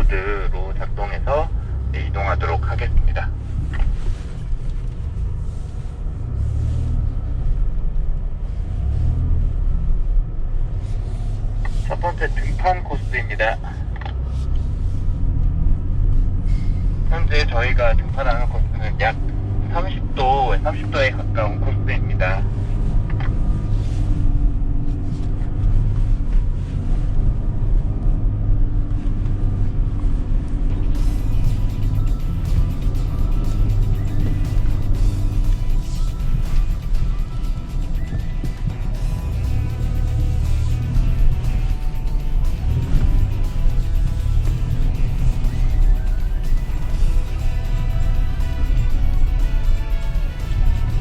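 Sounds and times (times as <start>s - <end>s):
pickup truck engine rumbling: 0.0s - 51.0s.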